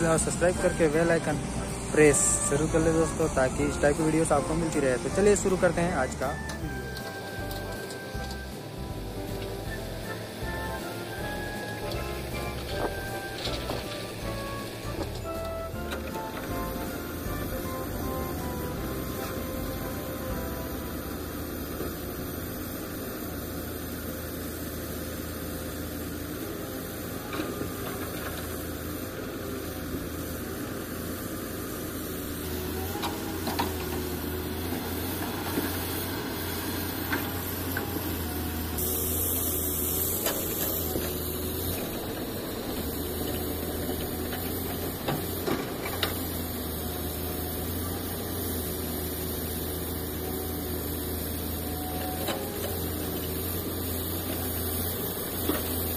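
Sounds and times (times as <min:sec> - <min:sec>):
diesel engines droning: 0:00.0 - 0:55.9.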